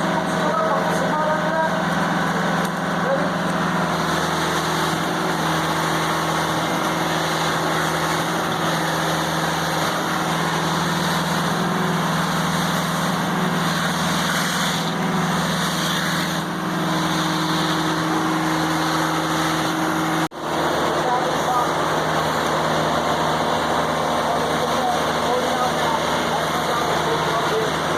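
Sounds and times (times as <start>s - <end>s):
engine running steadily: 0.0s - 27.9s.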